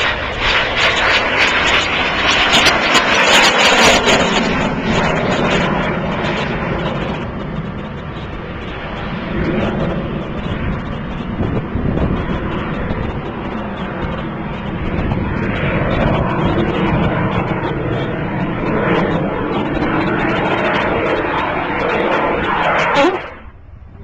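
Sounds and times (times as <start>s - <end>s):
rocket engine roaring with crackle: 0.0s - 24.0s.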